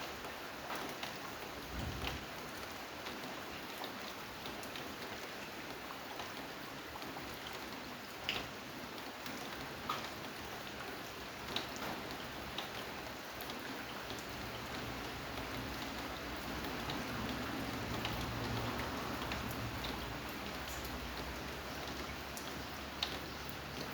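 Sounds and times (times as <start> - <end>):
rain falling: 0.0 - 23.9.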